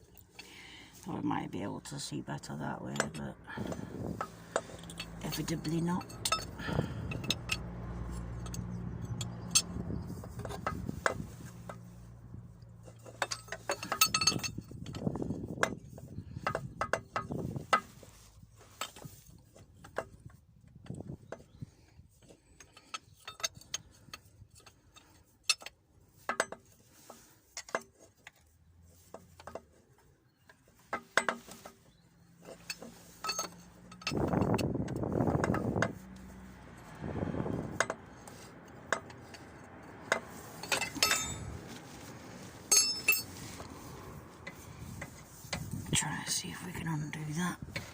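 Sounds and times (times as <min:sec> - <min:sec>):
metal tools clinking on engine parts: 0:01.9 - 0:47.9.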